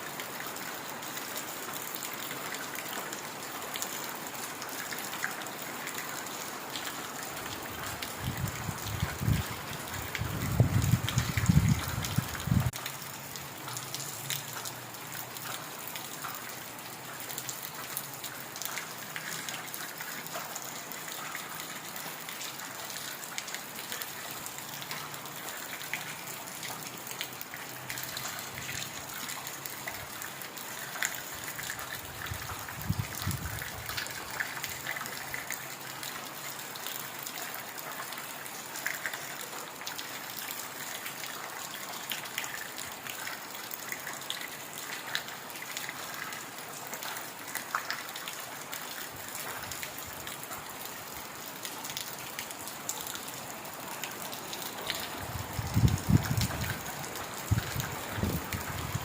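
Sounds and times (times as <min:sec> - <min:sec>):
heavy rain in forest: 0:00.0 - 0:59.0
water drips ticking: 0:01.2 - 0:59.0.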